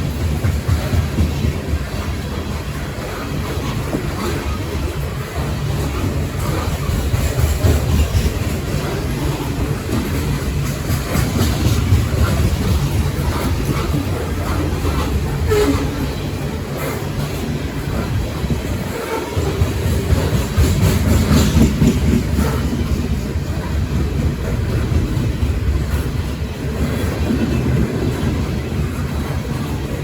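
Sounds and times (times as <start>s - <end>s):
train cars rumbling past: 0.0s - 30.0s
wheels clicking over rail joints: 0.0s - 30.0s.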